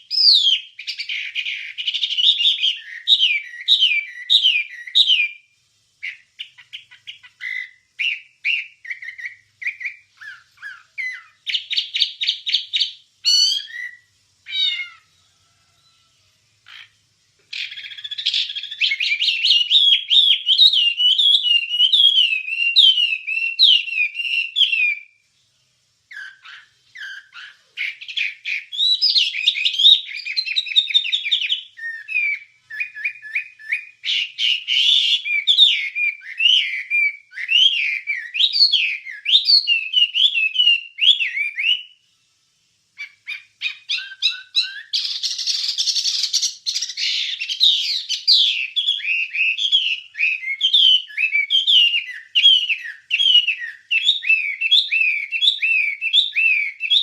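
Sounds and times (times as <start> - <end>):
songbird singing trills and whistles: 0.0 - 15.2, 15.8 - 25.4, 26.1 - 42.1, 43.0 - 57.0.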